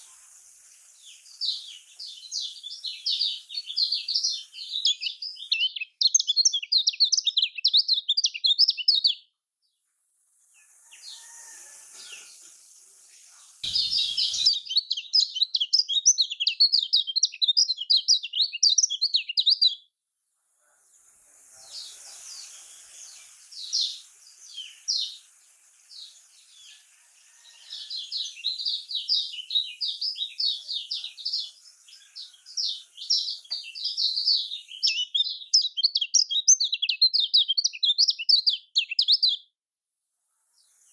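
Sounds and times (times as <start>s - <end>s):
bird chattering song: 0.0s - 9.3s, 13.4s - 19.8s, 21.4s - 26.9s, 27.7s - 39.5s.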